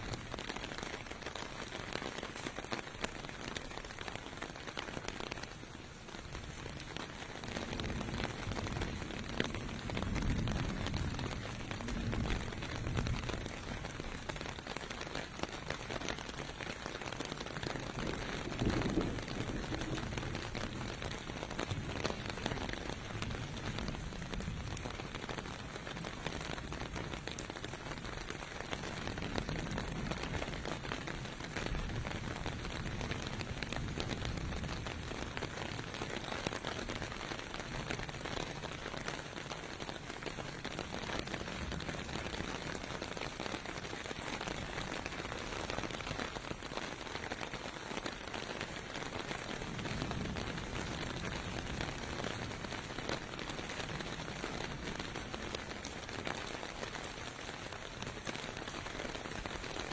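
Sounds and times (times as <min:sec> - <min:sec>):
rain falling on pavement: 0:00.0 - 0:59.9.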